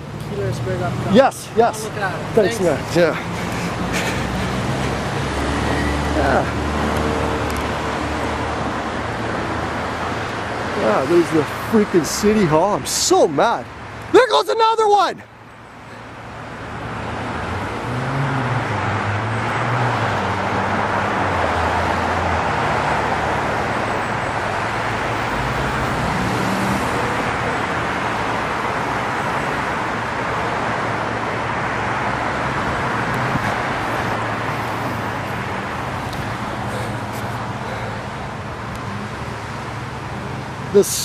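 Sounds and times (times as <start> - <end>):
vehicle engine rumble: 0.0 - 12.6, 15.2 - 40.8
traffic rushing: 0.0 - 41.0.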